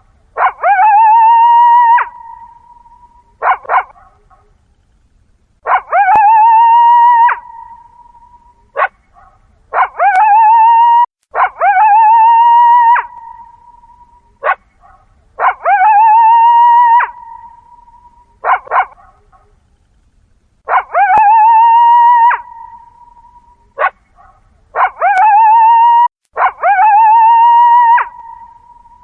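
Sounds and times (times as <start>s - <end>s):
coyote howling: 0.4s - 4.4s, 5.6s - 8.9s, 9.7s - 14.6s, 15.4s - 19.0s, 20.7s - 24.0s, 24.8s - 29.0s
coyote yelps: 0.4s - 4.6s, 5.6s - 19.6s, 20.7s - 29.0s.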